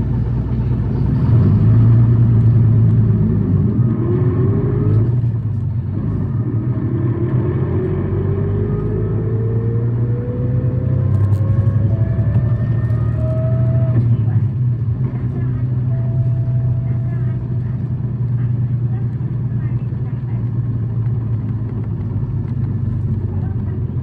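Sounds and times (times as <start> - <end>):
bus engine drone with whine: 0.0 - 24.0.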